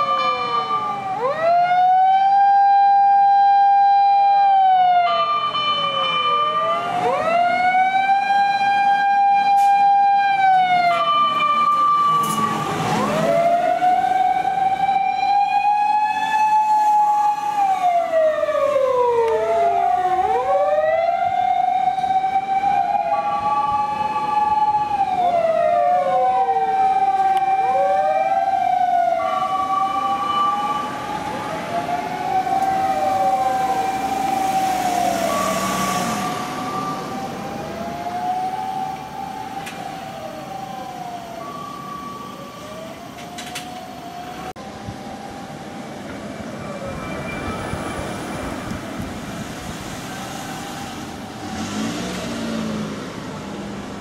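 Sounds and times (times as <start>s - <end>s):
fire engine sirens wailing: 0.0s - 54.0s.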